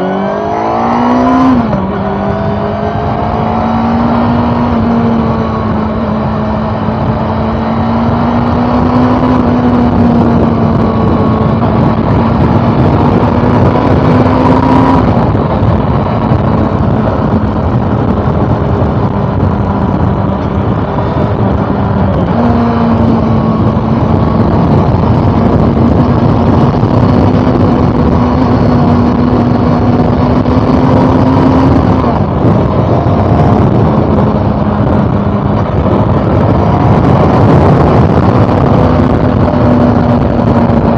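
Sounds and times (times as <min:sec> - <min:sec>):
motorcycle engine changing gears: 0:00.0 - 0:40.9.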